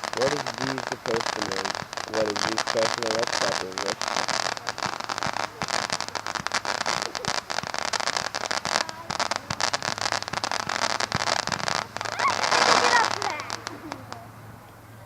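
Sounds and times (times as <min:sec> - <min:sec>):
fireworks crackling: 0:00.0 - 0:15.0
steady hiss: 0:00.0 - 0:15.0.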